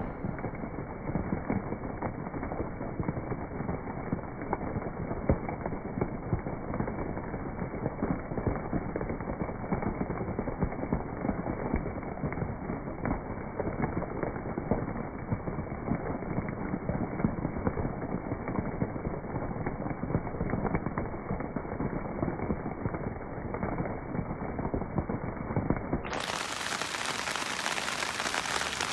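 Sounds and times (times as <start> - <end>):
rain on leaves: 0.0 - 28.9.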